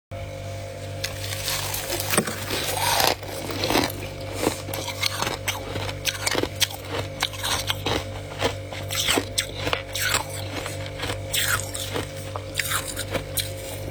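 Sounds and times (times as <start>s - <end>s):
steady low hum: 0.1s - 13.9s
frost crunching: 0.8s - 13.9s.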